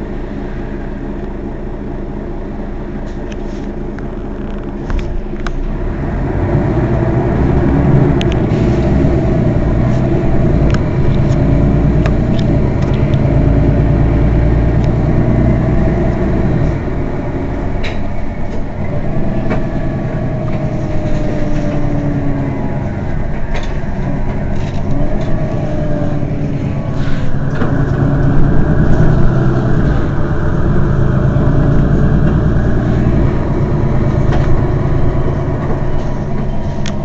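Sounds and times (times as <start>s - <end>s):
bus engine idling: 0.0s - 37.0s.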